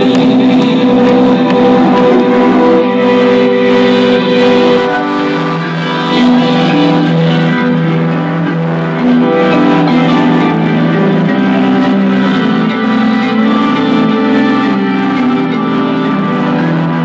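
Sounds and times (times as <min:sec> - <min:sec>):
electronic dance music: 0:00.0 - 0:17.0.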